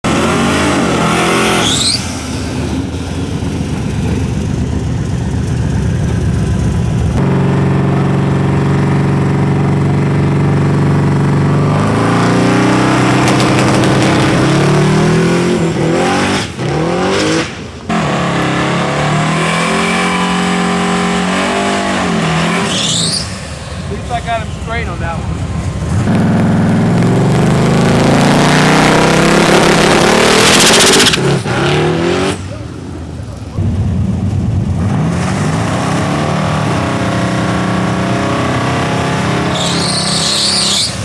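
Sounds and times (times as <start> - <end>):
car engine at high revs: 0.0 - 41.0.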